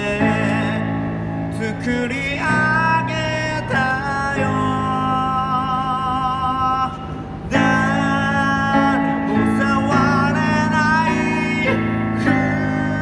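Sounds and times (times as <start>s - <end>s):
electronic keyboard: 0.0s - 13.0s
man singing a pop ballad: 0.0s - 13.0s.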